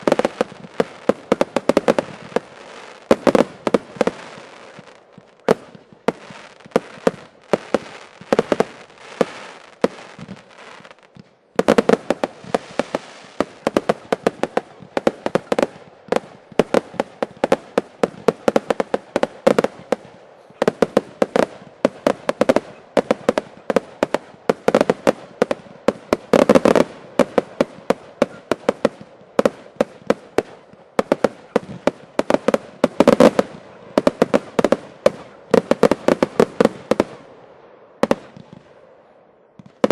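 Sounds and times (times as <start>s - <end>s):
fireworks barrage bangs: 0.0s - 37.3s, 38.0s - 38.8s, 39.6s - 39.9s.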